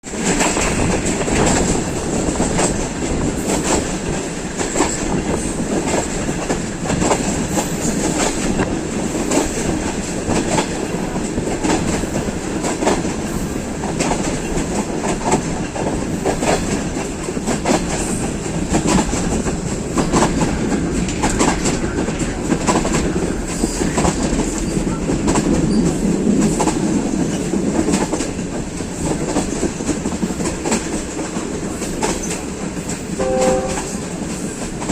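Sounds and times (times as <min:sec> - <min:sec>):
train rumbling on track: 0:00.0 - 0:34.9.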